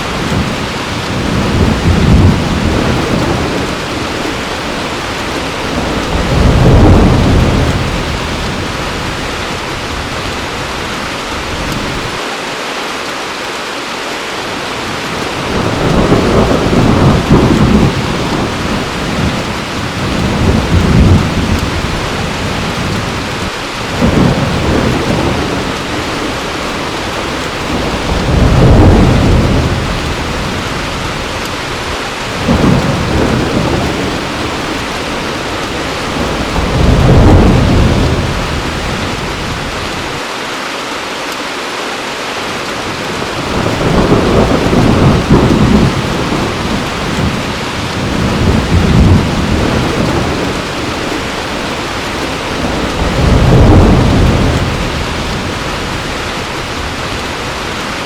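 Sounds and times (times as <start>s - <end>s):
thunder rumbling: 0.0s - 12.2s, 14.7s - 40.2s, 42.8s - 58.0s
heavy rain: 0.0s - 58.0s.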